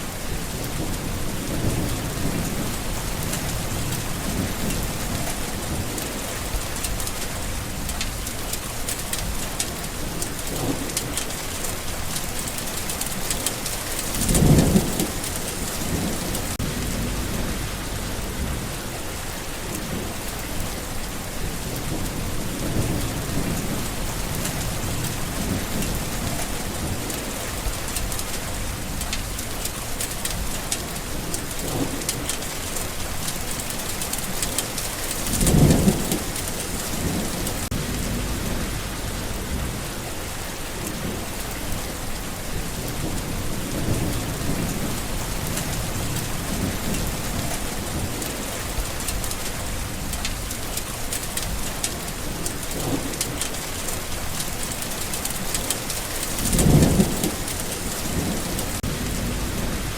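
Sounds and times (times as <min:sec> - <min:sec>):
heavy rain falling: 0:00.0 - 0:59.9
distant thunder rumbles: 0:00.1 - 0:59.9.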